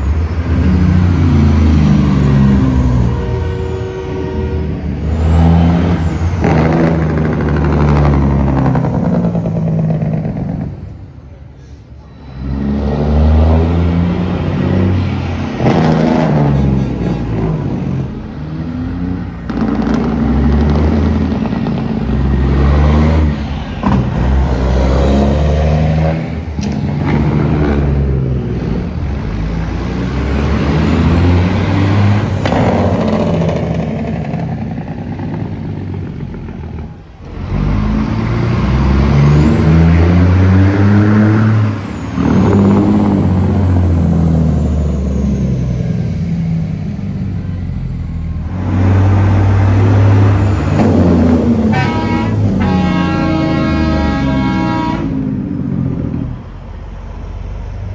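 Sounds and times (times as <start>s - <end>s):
diesel engine braking: 0.0s - 57.9s
trucks passing: 0.0s - 57.9s.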